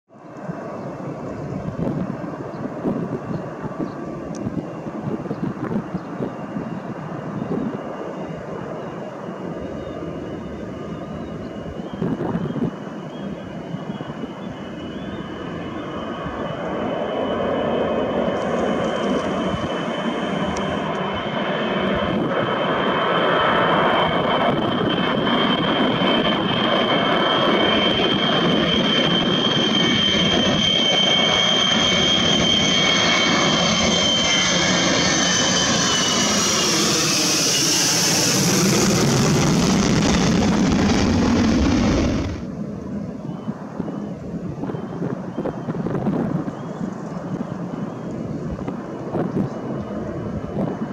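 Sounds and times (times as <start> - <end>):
jet aircraft roar with fan whine: 0.1 - 50.9.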